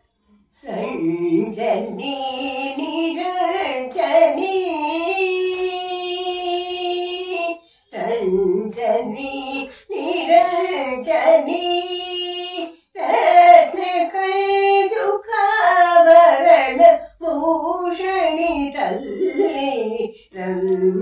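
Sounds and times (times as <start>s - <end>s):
elderly woman singing unaccompanied: 0.6s - 21.0s.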